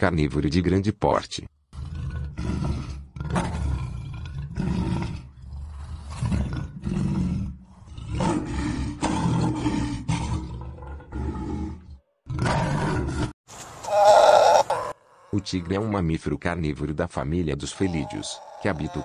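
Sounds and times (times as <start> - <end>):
lion roaring: 1.7 - 16.0, 17.6 - 19.0.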